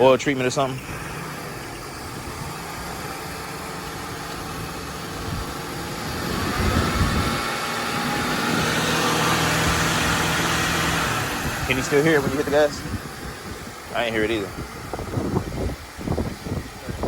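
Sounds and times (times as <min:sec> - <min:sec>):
car engine idling and revving: 0:00.0 - 0:17.0
high whine: 0:00.0 - 0:17.0.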